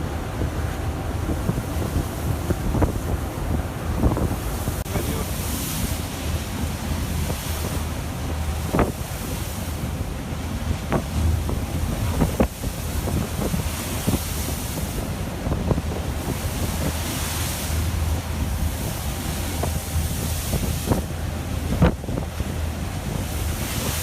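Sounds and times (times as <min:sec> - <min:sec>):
heavy seas washing around boat: 0:00.0 - 0:24.0
wind buffeting microphone: 0:00.0 - 0:24.0.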